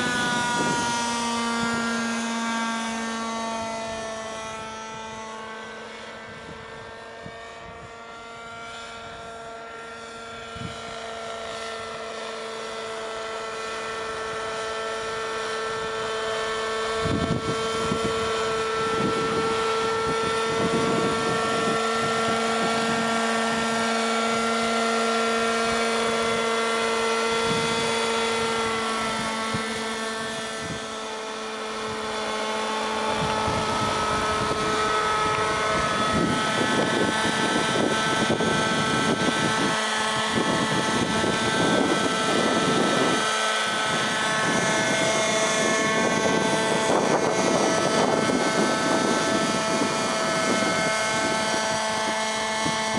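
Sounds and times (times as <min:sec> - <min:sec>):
model helicopter engine whine: 0:00.0 - 0:52.9.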